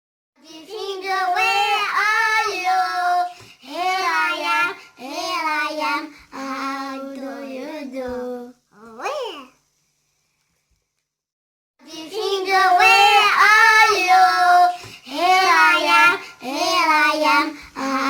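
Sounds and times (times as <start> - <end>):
child singing: 0.4 - 9.6, 11.8 - 18.0.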